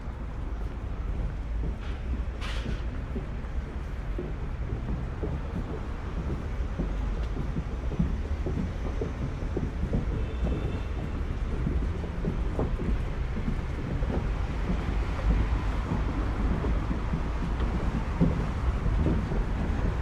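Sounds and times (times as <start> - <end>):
low street rumble: 0.0 - 20.0
small irregular knocks: 0.1 - 20.0.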